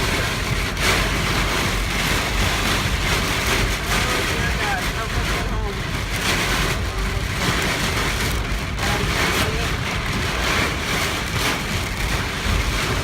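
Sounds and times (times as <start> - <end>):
wind and rain buffeting car: 0.0 - 13.0.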